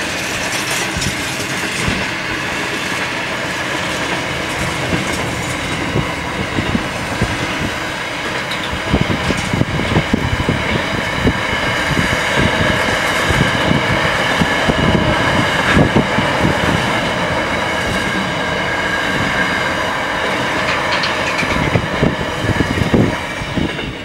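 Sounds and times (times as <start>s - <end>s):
freight train wagons rolling past: 0.0s - 24.0s
wheels clacking over rail joints: 0.0s - 24.0s.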